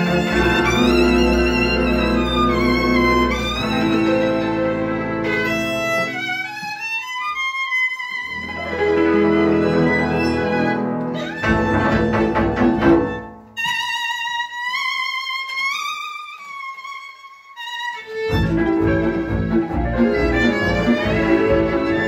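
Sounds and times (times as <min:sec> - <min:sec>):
folk string band playing: 0:00.0 - 0:22.0
solo violin sliding line: 0:00.0 - 0:22.0.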